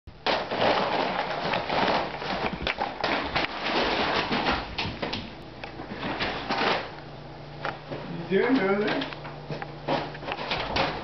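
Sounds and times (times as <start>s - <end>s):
paper bag crackling: 0.1s - 11.0s
puppy paws scrabbling on floor: 0.2s - 11.0s.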